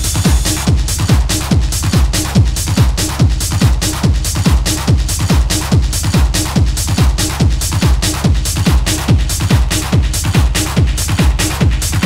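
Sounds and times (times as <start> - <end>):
deep kick drums: 0.0 - 12.0
hissing hi-hats: 0.0 - 12.0
techno music: 0.0 - 12.0.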